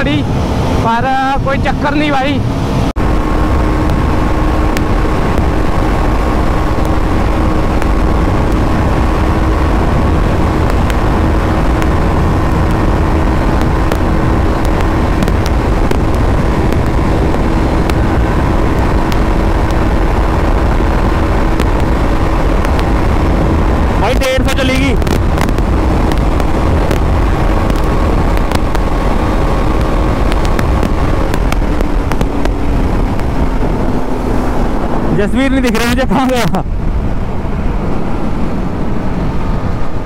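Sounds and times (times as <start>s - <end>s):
motorcycle engine running: 0.0s - 35.9s
wind rush on microphone: 0.0s - 40.0s.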